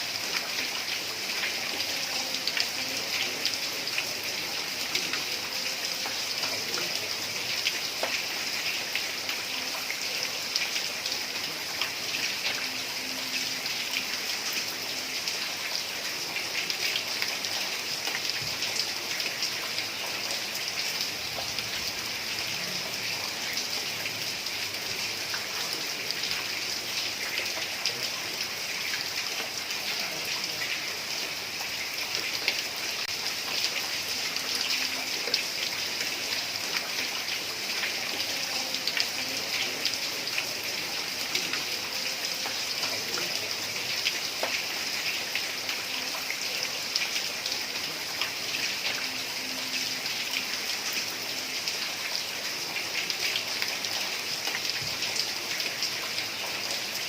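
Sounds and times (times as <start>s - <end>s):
heavy rain on a tiled roof: 0.0s - 57.0s.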